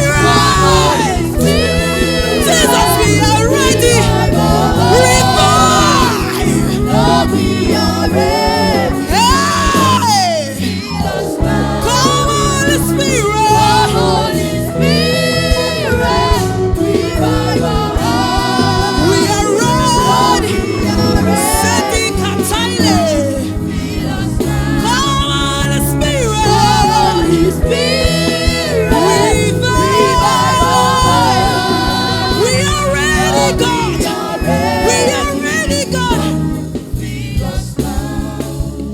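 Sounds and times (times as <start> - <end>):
gospel singer with choir and band: 0.0 - 38.9.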